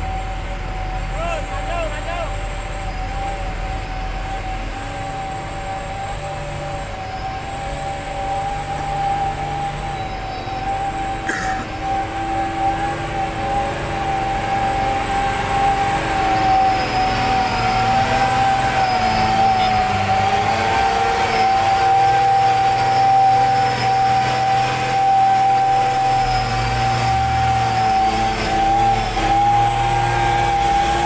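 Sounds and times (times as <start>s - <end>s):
high whine: 0.0s - 31.0s
truck diesel engine labouring: 0.0s - 31.0s.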